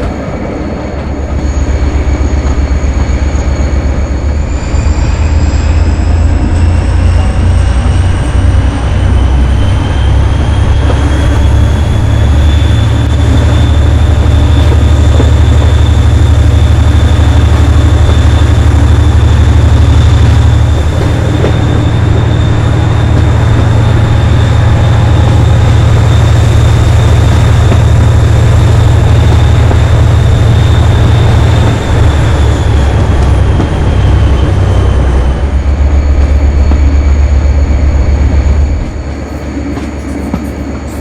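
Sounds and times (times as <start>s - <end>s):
diesel locomotive engine throbbing: 0.0s - 41.0s.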